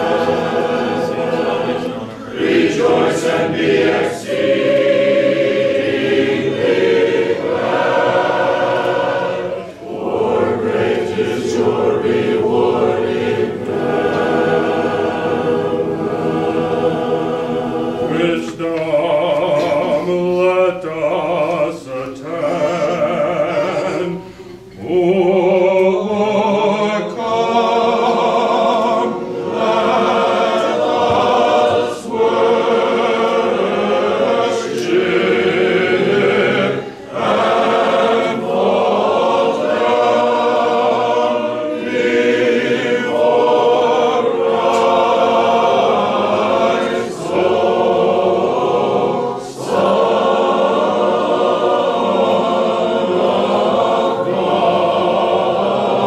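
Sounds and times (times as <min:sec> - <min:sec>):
choir chanting: 0:00.0 - 0:56.0.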